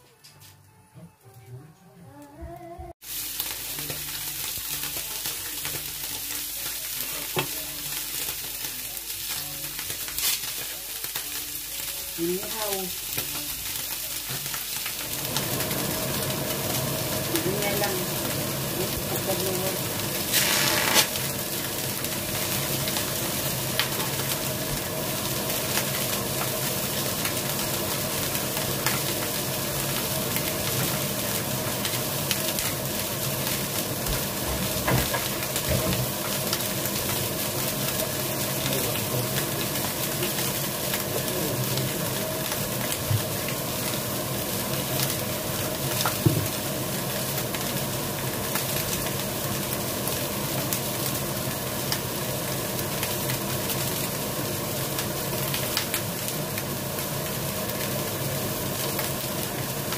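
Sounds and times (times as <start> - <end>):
fish sizzling on a griddle: 3.0 - 59.9.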